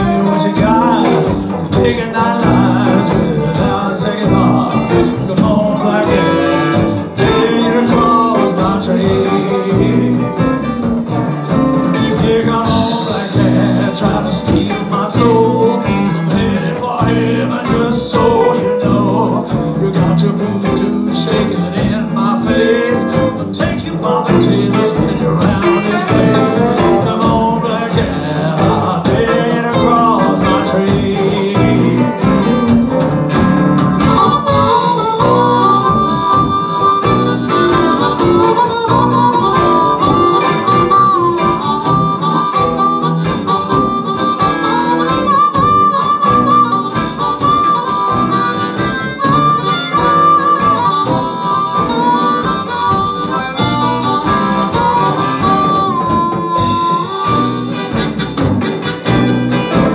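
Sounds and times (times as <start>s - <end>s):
amplified blues harmonica: 0.0s - 59.9s
live band with guitars and drums: 0.0s - 59.9s.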